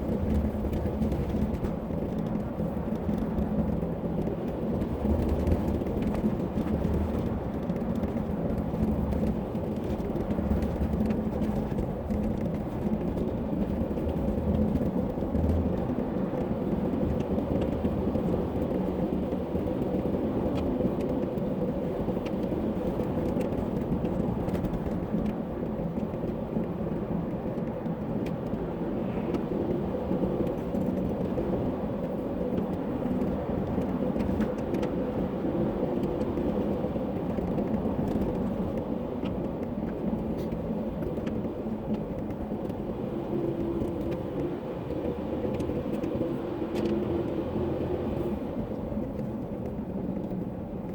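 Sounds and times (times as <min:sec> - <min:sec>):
car cabin road noise: 0:00.0 - 0:50.9.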